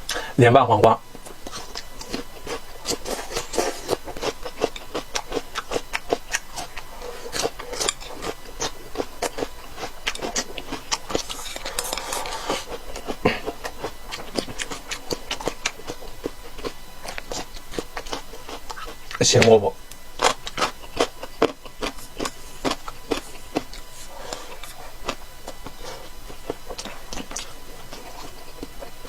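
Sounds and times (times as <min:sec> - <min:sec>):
crunchy chewing: 0:00.0 - 0:29.0.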